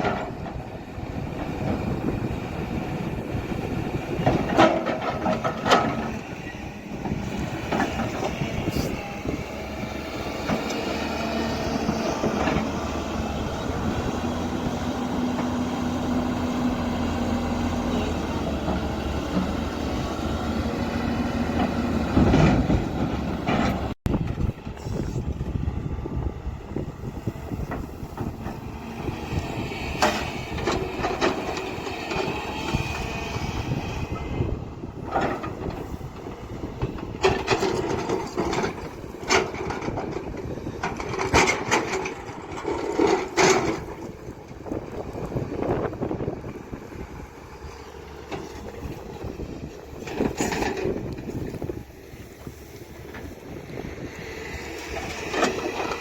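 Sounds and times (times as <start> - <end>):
soil and boulders clattering: 0.0 - 24.8, 26.8 - 56.0
excavator diesel engine running: 0.0 - 56.0.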